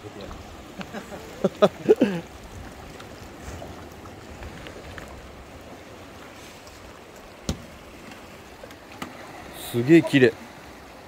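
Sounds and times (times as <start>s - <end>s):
sea water rumbling: 0.0s - 11.0s.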